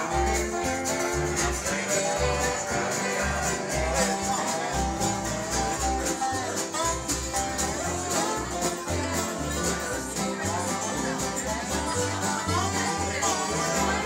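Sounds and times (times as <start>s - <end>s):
resonator guitar sliding lead: 0.0s - 14.0s
strummed acoustic guitars: 0.0s - 14.0s.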